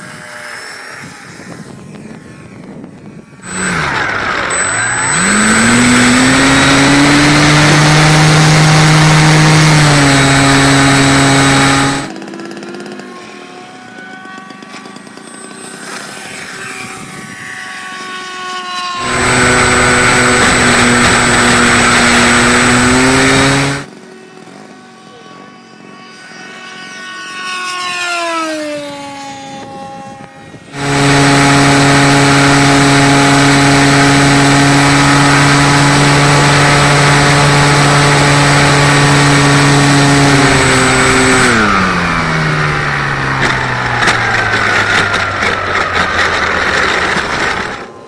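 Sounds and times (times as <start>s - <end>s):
model airplane motor buzzing: 0.0s - 48.0s.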